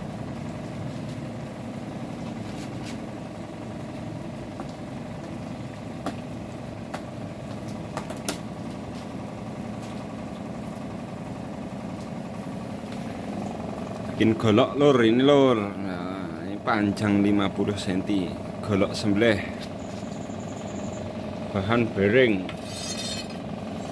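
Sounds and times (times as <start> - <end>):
low machine hum: 0.0 - 23.9.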